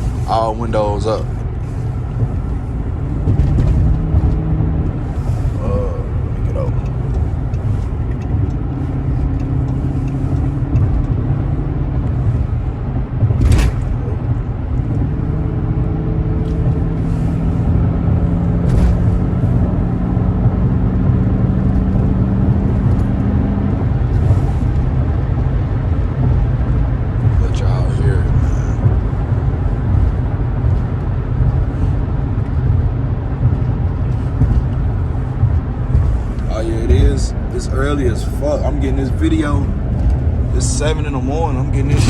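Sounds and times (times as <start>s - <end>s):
car engine droning: 0.0s - 42.0s.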